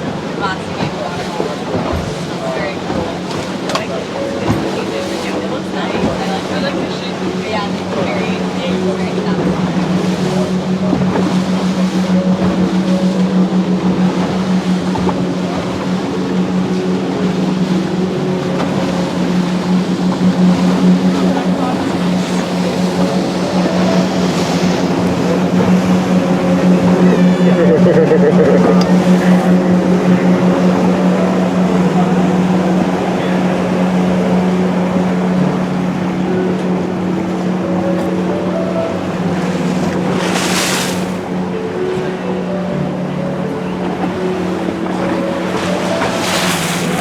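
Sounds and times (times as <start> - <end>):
engine low hum: 0.0 - 47.0
water rushing: 0.0 - 47.0
wind: 0.0 - 47.0.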